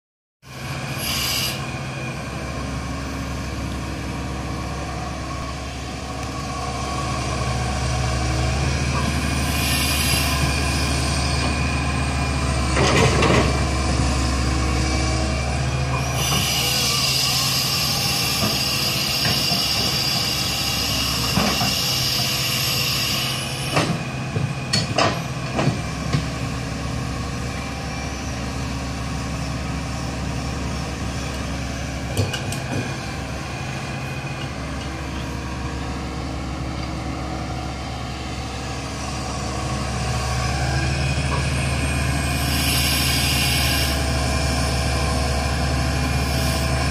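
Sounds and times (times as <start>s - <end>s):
excavator diesel engine: 0.4s - 46.9s
high hydraulic whine: 0.5s - 46.9s.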